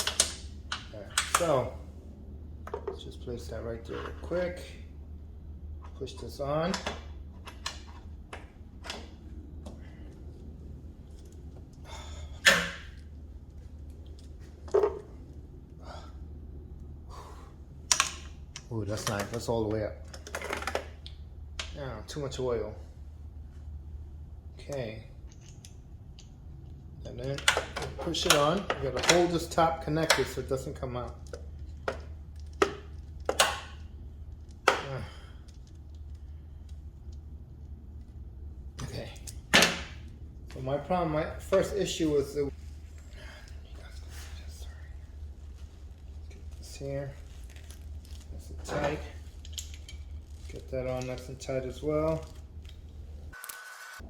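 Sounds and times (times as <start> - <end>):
steady low hum: 0.0 - 53.4.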